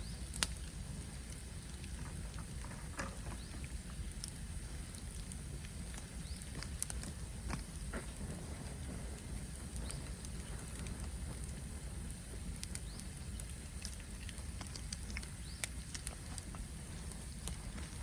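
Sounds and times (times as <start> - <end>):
bonfire flames rumbling: 0.0 - 18.0
burning bamboo crackling and popping: 0.0 - 18.0.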